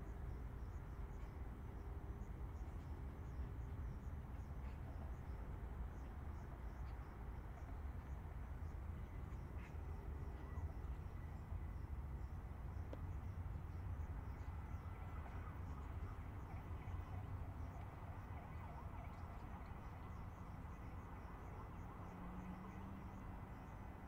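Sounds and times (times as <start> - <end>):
distant highway traffic rumble: 0.0 - 24.0.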